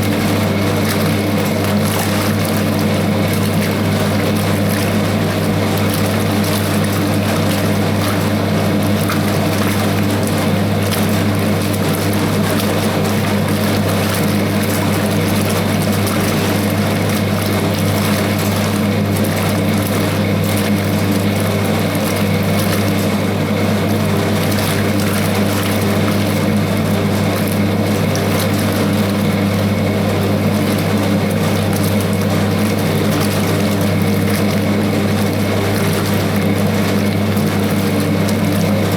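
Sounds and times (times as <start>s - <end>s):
washing machine motor humming: 0.0s - 38.9s
water churning in tub: 0.0s - 38.9s.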